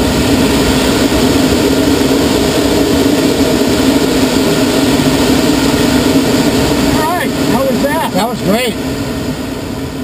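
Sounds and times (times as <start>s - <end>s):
loud rush of airflow: 0.0s - 10.0s.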